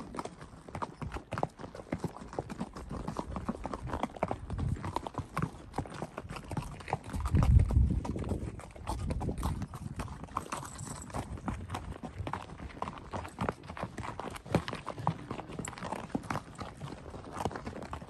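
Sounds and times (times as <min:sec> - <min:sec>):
horse hooves clip-clopping: 0:00.0 - 0:18.0.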